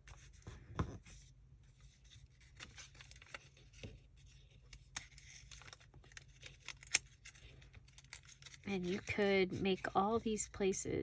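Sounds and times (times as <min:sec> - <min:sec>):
paper pages rustling: 0:00.0 - 0:10.4.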